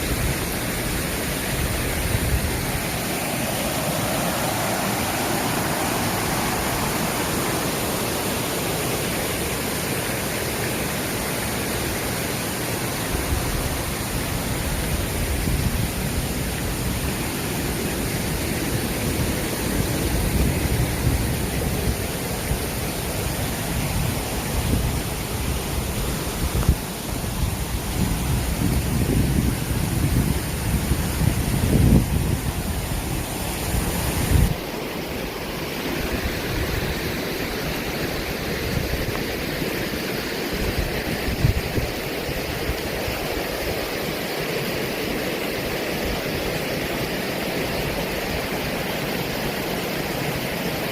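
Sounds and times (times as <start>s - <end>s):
mountain stream rushing: 0.0s - 50.9s.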